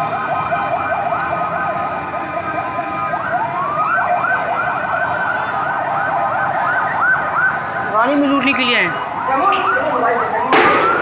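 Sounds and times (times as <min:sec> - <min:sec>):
electronic siren yelping: 0:00.0 - 0:11.0.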